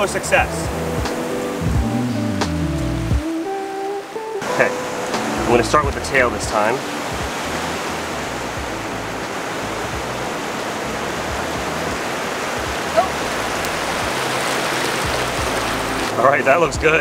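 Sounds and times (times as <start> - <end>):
surf washing on a beach: 0.0 - 1.6, 3.2 - 17.0.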